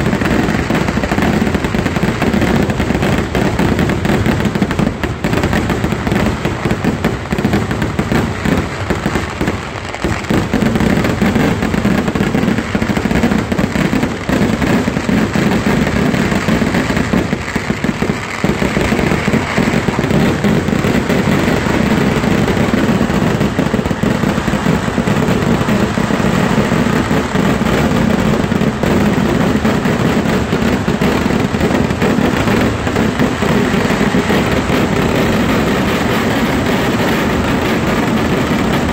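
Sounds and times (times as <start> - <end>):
fireworks and firecrackers crackling: 0.0 - 38.9.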